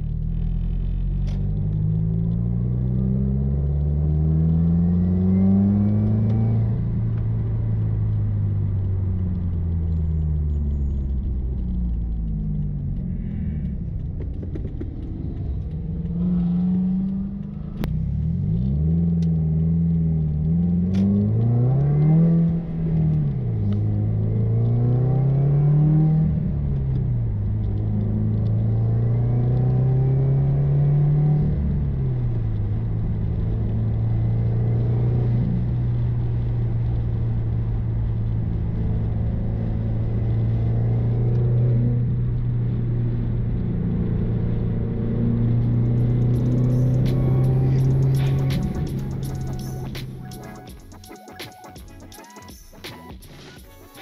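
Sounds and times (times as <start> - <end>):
car engine from inside cabin: 0.0 - 51.0.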